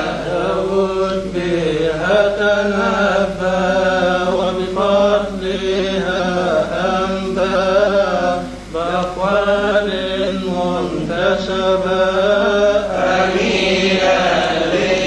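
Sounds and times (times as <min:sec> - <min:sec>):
man chanting a hymn: 0:00.0 - 0:15.0.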